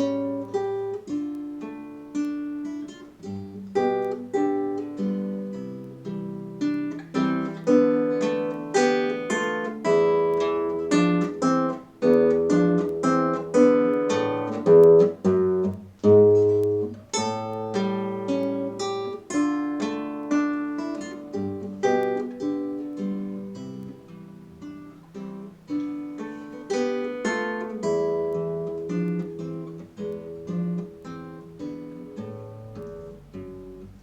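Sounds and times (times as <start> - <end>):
acoustic guitar folk melody: 0.0 - 34.0.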